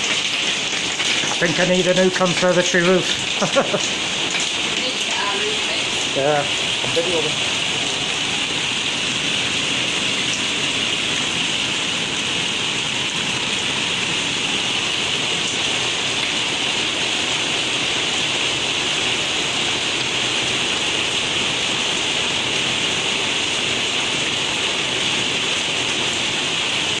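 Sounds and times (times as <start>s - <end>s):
hail and rain on glass roof: 0.0s - 27.0s.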